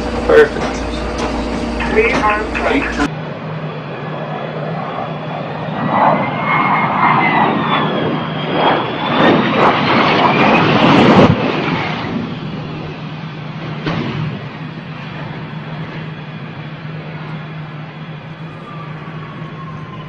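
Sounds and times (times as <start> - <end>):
aircraft engines passing: 0.0 - 20.0.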